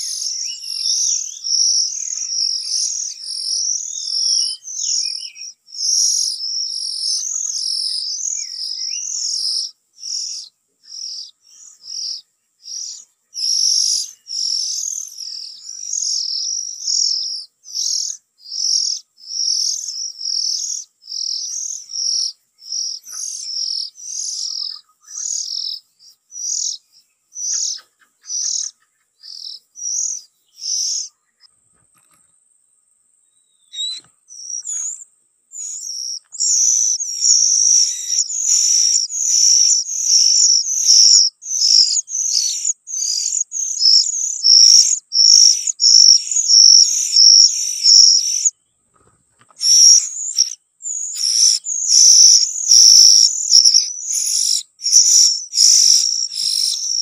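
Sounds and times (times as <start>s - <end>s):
bird chirping: 0.0s - 32.4s, 33.1s - 57.0s.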